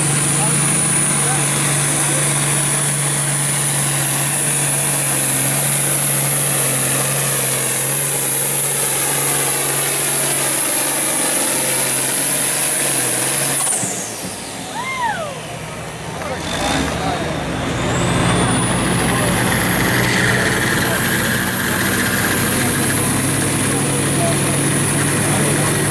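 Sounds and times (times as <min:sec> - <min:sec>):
high engine whine: 0:00.0 - 0:25.9
tractor diesel engine under load: 0:00.0 - 0:25.9.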